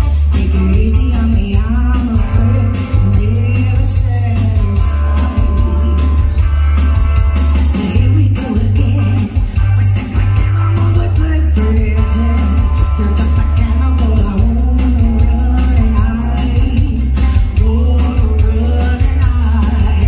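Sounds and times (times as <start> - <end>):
woman singing: 0.0 - 6.4, 7.5 - 20.0
bass guitar: 0.0 - 20.0
drum kit beat: 0.0 - 20.0
electric guitars: 0.0 - 20.0.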